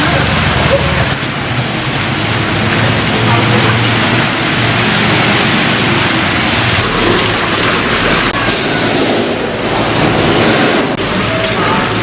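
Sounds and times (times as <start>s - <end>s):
motorcycle engines humming: 0.0s - 12.0s
water splashing from tyres: 0.0s - 12.0s.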